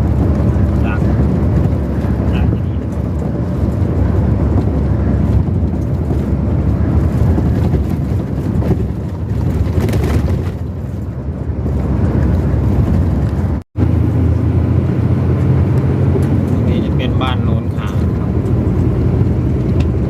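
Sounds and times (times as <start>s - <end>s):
vehicle road and wind noise: 0.0s - 20.0s.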